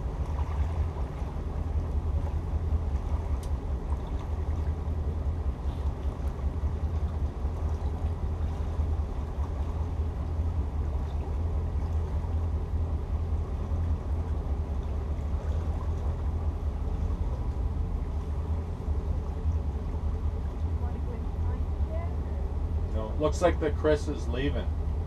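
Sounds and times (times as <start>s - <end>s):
boat engines rumbling: 0.0s - 25.0s.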